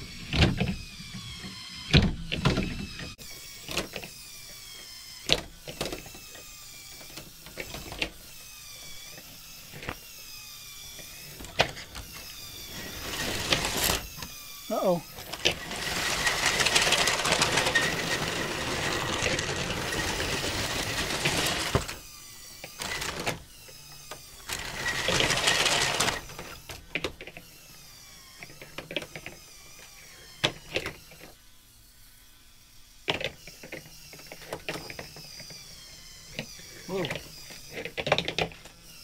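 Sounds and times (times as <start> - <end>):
toy motors whirring and rattling: 0.0 - 39.0.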